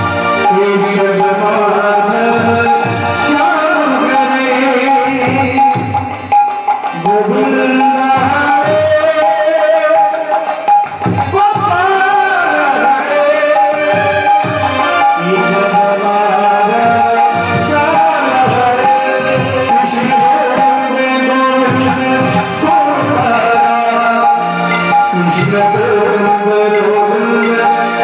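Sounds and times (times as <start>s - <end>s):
hand drum beating steady rhythm: 0.0s - 28.0s
person singing over pa system: 0.3s - 28.0s.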